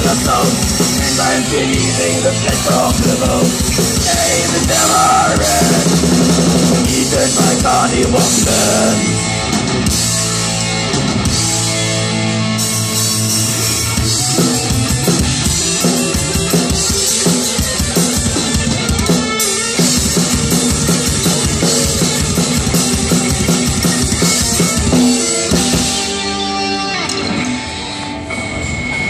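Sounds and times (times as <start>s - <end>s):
bass guitar: 0.0s - 29.0s
drum kit: 0.0s - 29.0s
electric guitars: 0.0s - 29.0s.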